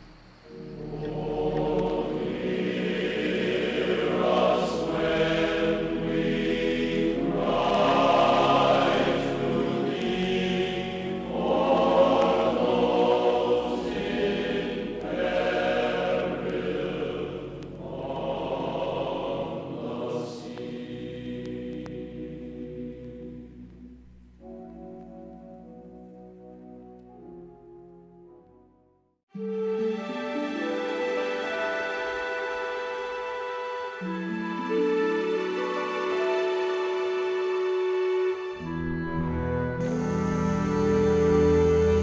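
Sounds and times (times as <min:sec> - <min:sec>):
choir singing: 0:00.4 - 0:23.7, 0:29.4 - 0:42.0.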